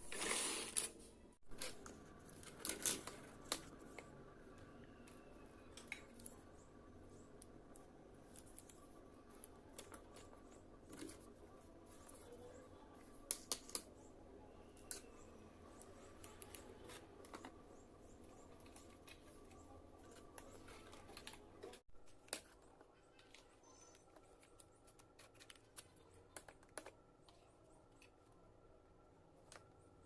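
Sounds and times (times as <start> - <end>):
faint room noise: 0.0 - 30.0.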